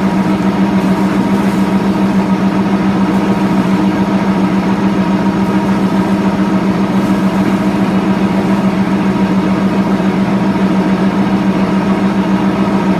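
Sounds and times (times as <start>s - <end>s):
engine running steadily: 0.0s - 12.9s.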